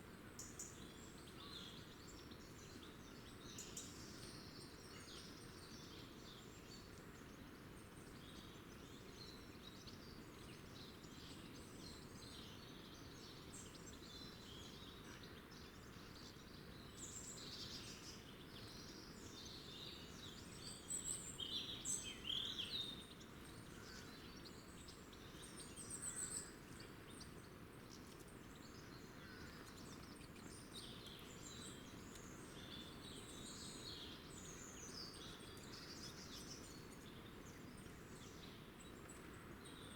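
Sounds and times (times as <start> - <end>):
small birds chirping: 0.3 - 39.9.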